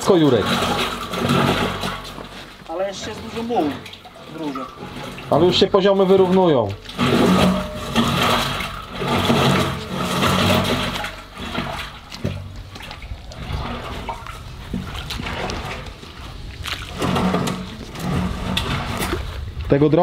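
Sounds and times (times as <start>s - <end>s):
water pouring into drain: 0.0s - 19.8s.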